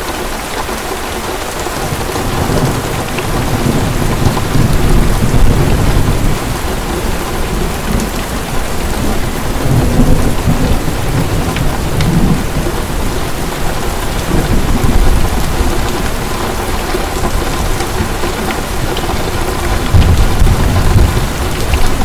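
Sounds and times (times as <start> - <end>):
heavy rain pouring: 0.0 - 22.0
low thunder rumbling: 1.8 - 22.0.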